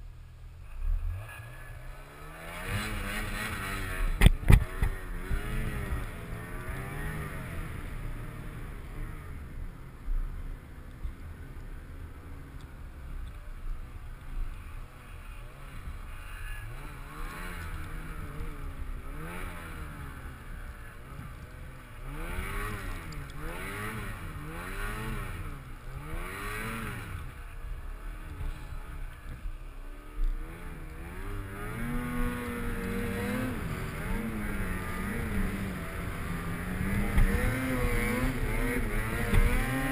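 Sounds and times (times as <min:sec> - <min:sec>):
snowmobile engine revving: 0:00.6 - 0:09.8, 0:14.2 - 0:39.9.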